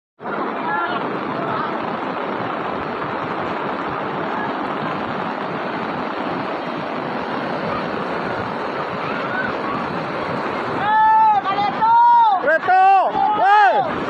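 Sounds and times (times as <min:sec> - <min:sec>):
flooded river roaring: 0:00.2 - 0:14.0.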